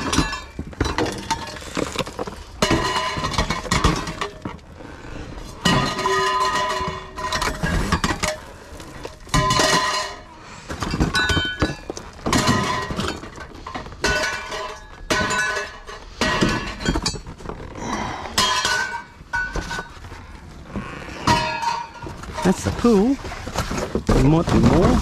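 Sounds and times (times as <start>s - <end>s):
glass bottles clattering in dumpster: 0.0s - 25.0s.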